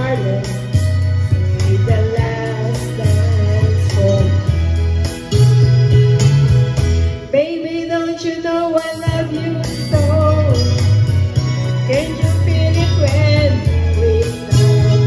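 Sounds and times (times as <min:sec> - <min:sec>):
woman singing into microphone: 0:00.0 - 0:04.8, 0:07.2 - 0:15.0
backing music track with bass: 0:00.0 - 0:15.0.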